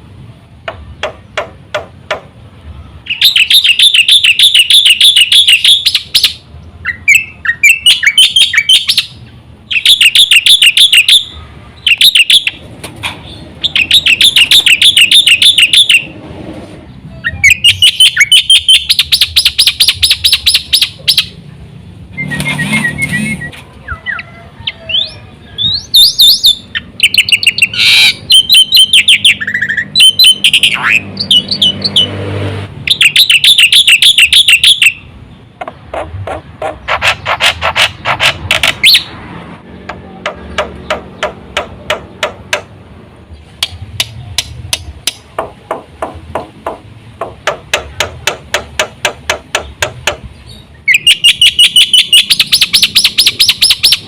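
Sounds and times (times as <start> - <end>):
bird rapid chattering song: 0.6 - 16.2, 16.8 - 32.2, 32.8 - 54.0.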